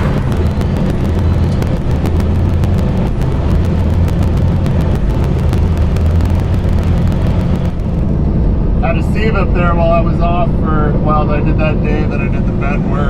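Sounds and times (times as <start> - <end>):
road noise: 0.0 - 13.0
truck engine drone in cab: 0.0 - 13.0.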